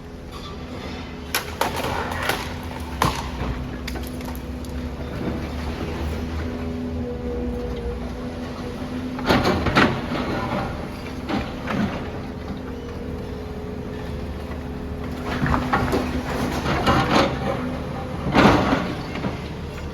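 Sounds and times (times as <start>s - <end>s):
excavator engine running: 3.4s - 19.9s.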